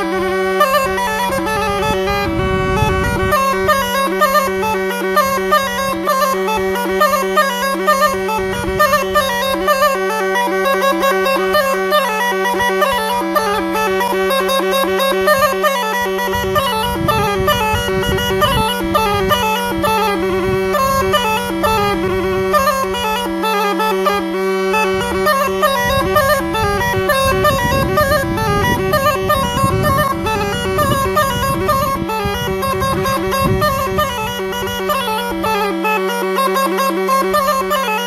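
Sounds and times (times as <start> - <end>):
bagpipe folk melody: 0.0 - 38.0.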